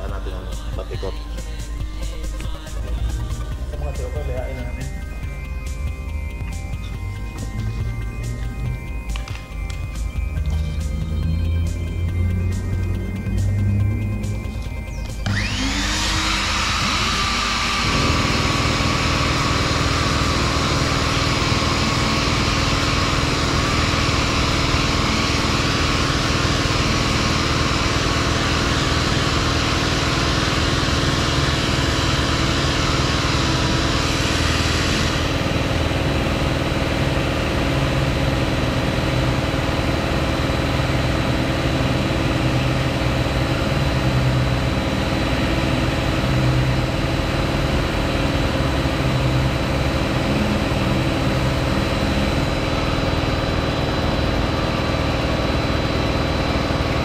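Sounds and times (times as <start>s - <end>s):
orbital sander running: 0.0s - 57.0s
vacuum humming: 0.0s - 57.0s.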